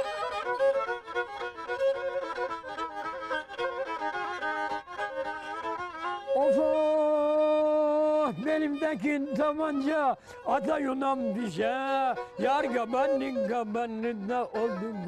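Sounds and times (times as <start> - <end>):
bowed fiddle melody: 0.0 - 15.0.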